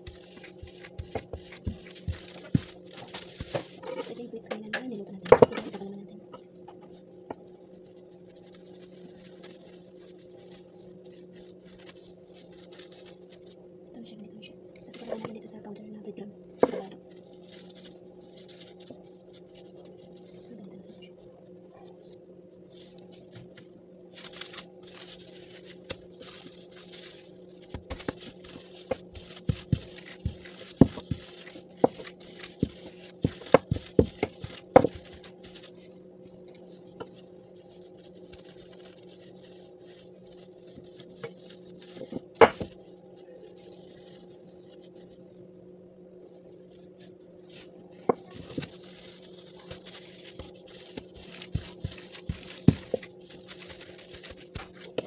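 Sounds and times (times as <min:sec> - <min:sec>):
plastic gloves rustling: 0:00.0 - 0:55.0
steady low hum: 0:00.0 - 0:55.0.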